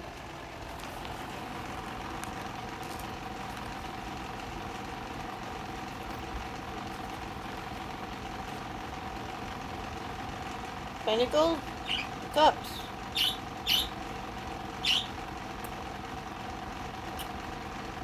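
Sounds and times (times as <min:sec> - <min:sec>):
mid-pitched whine: 0:00.0 - 0:17.4
mechanical hum: 0:00.0 - 0:18.0.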